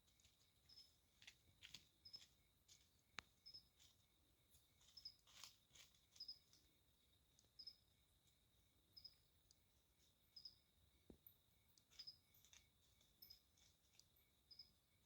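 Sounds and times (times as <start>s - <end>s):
insect chirping: 0.1s - 15.0s.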